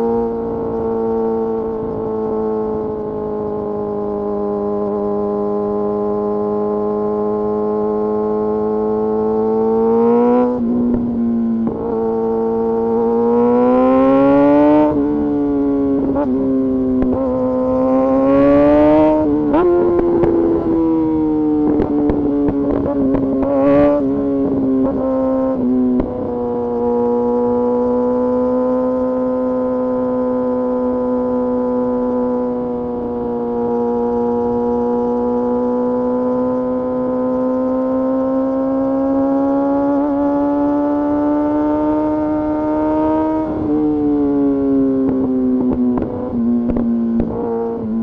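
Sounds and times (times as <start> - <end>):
motorcycle engine at high revs: 0.0 - 48.0.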